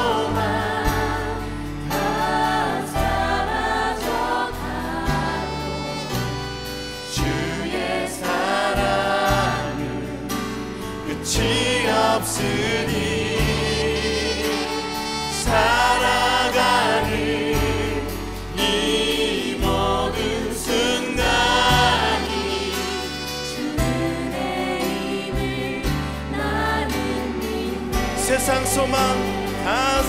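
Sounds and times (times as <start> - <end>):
worship band with singing: 0.0 - 30.0.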